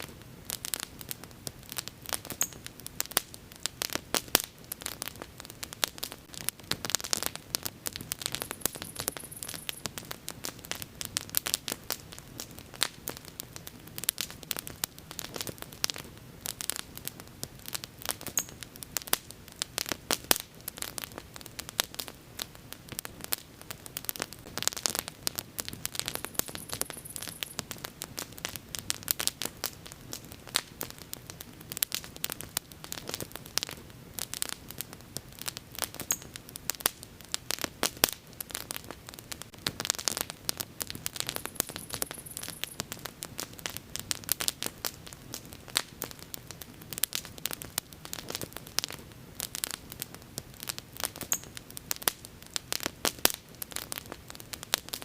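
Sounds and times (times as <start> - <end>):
wood bonfire crackling: 0.0 - 55.0.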